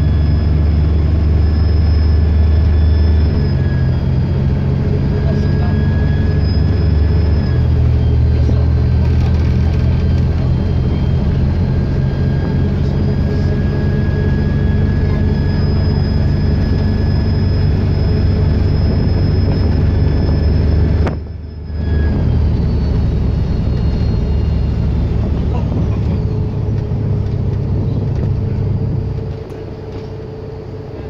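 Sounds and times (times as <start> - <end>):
turbocharger whistle: 0.0 - 30.9
diesel bus engine running: 0.0 - 31.0.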